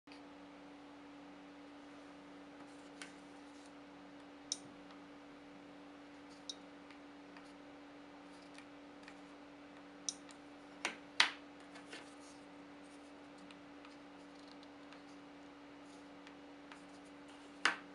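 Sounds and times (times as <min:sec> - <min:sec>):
faint steady hum: 0:00.1 - 0:17.9.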